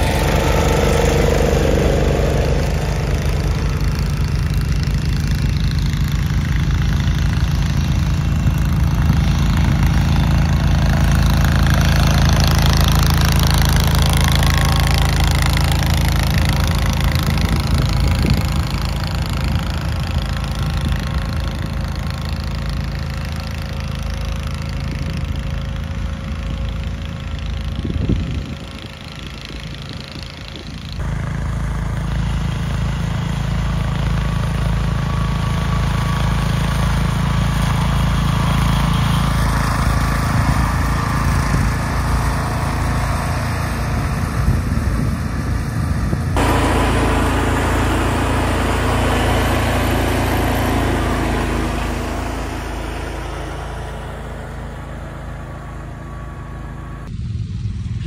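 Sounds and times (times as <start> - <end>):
garden tractor engine running: 0.0 - 57.3.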